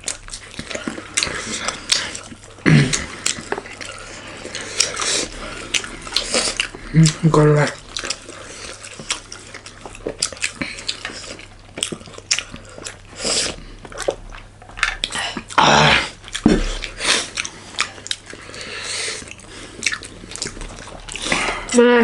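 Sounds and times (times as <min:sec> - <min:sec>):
close chewing and mouth smacks: 0:00.0 - 0:21.8.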